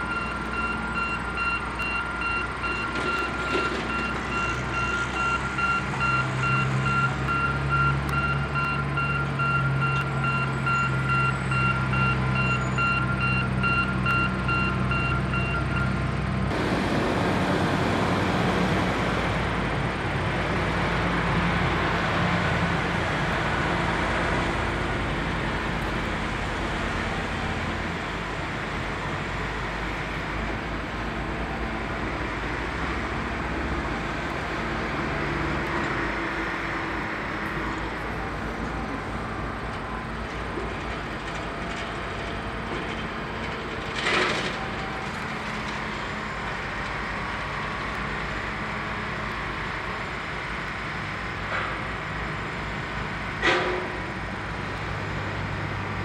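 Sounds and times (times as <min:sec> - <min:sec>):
railcars rumbling past: 0:02.1 - 0:56.0.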